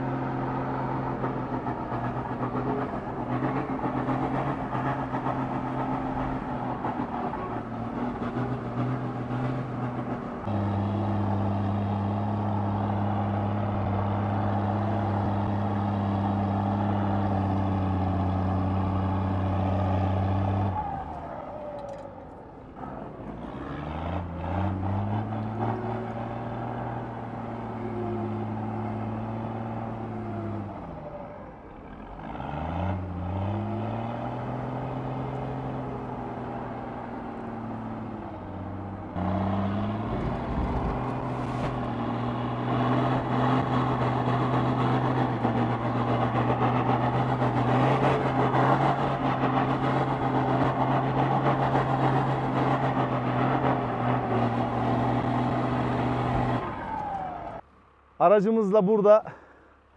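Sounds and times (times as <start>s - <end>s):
off-road vehicle engine revving: 0.0s - 57.7s.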